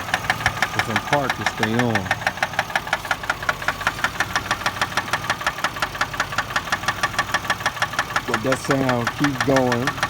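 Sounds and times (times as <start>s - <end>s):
car engine idling: 0.0s - 10.0s
rapid engine knocking: 0.0s - 10.0s.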